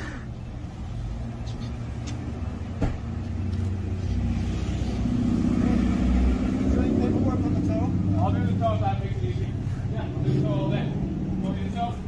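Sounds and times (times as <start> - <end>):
car engine approaching: 0.0 - 12.0.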